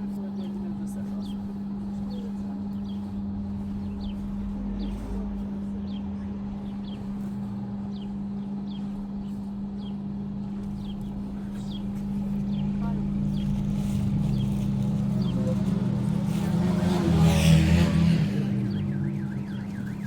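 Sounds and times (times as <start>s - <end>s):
loud steady low hum: 0.0s - 20.0s.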